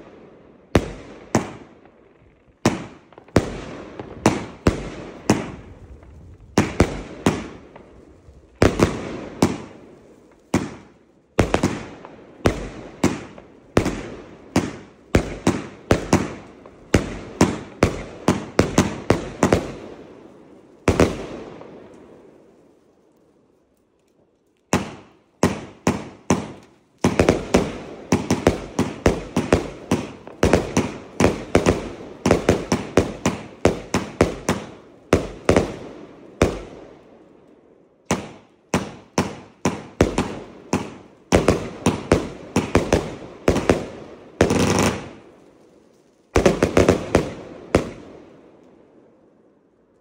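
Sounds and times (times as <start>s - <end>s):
fireworks cake firing sharp bangs: 0.0s - 22.5s, 24.7s - 37.2s, 38.1s - 45.4s, 46.3s - 48.6s.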